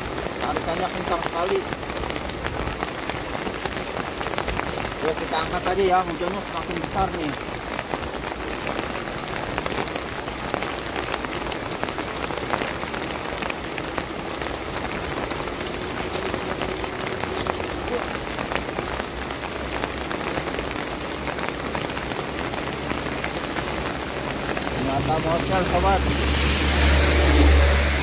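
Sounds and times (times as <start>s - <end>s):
heavy rain falling: 0.0s - 28.0s
raindrops striking close by: 0.0s - 28.0s.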